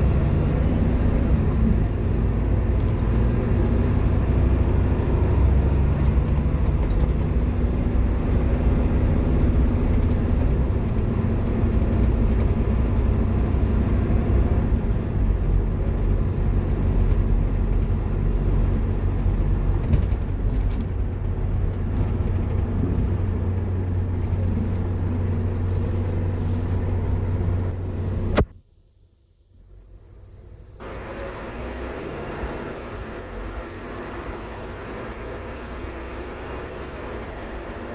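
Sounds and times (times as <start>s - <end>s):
bus diesel engine running: 0.0s - 28.5s, 29.4s - 37.9s.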